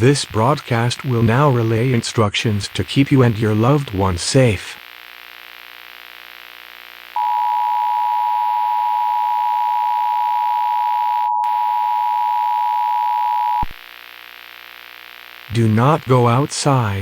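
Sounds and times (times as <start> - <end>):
faint electrical hum: 0.0 - 10.8, 11.6 - 17.0.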